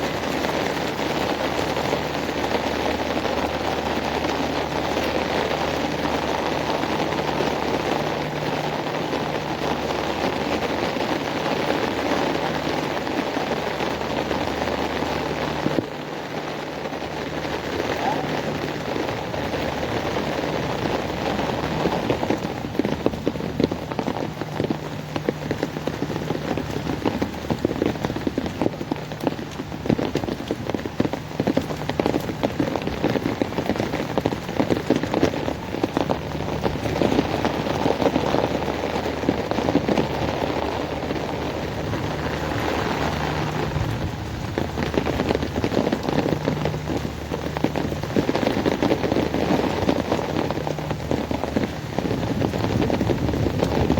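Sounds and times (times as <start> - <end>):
heavy rain on hard surfaces: 0.0 - 53.9.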